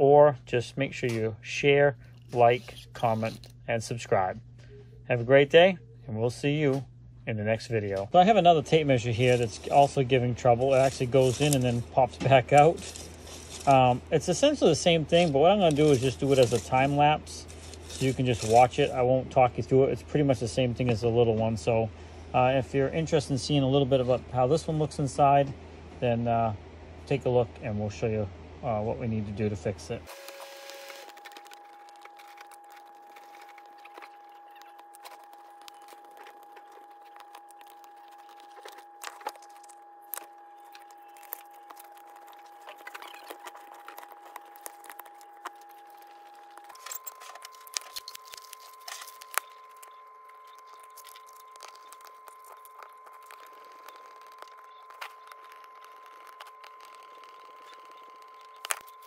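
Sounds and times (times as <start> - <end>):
steady high hum: 0.0 - 59.0.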